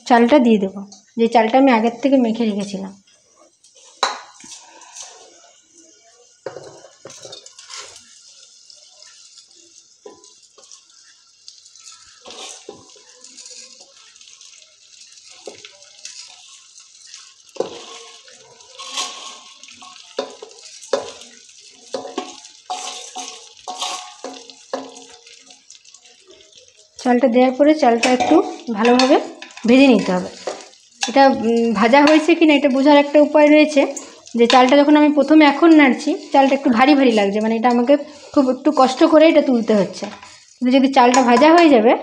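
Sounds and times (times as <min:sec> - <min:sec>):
rice sizzling in hot oil: 0:00.0 - 0:42.0.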